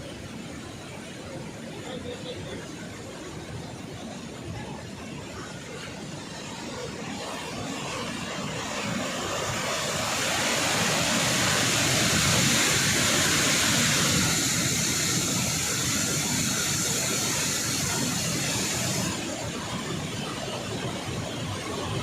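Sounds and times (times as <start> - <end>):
water rushing through dam spillway: 0.0 - 22.0.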